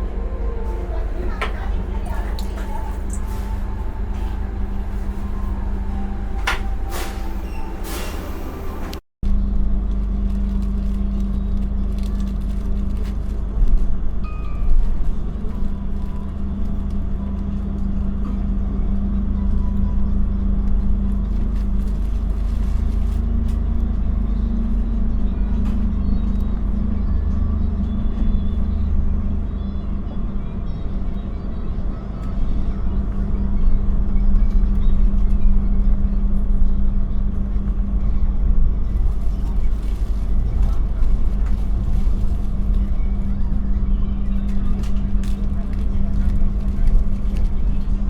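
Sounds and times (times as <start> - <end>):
constant hum: 0.0 - 48.0
train carriage rumble: 0.0 - 48.0.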